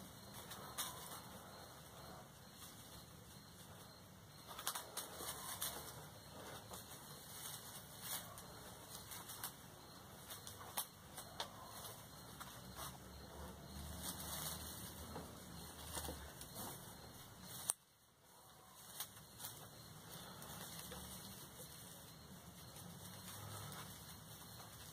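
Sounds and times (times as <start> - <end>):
foliage rustling: 0.0 - 24.9.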